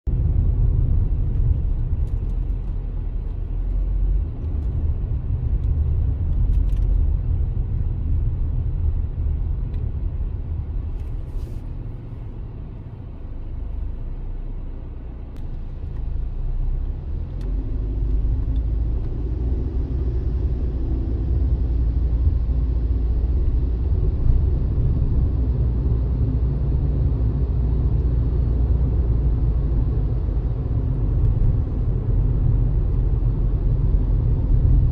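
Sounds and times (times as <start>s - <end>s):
vehicle engine and road rumble: 0.0s - 34.9s.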